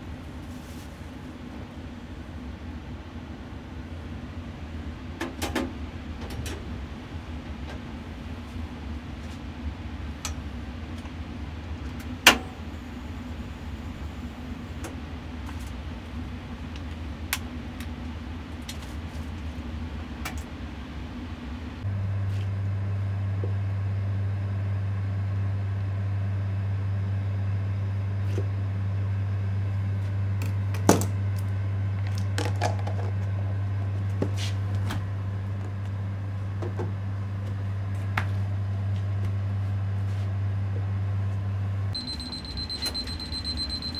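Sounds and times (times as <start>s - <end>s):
kitchen machinery hum: 0.0s - 43.9s.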